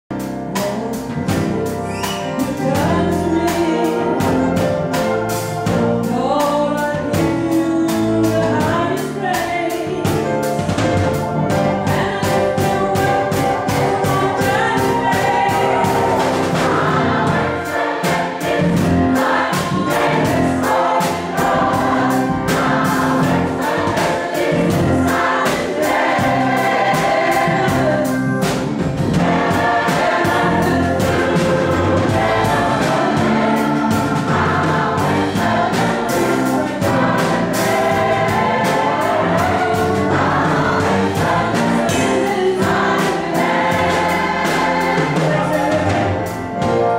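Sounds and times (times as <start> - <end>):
band with steady drum beat: 0.1 - 46.9
gospel choir singing: 0.2 - 46.9.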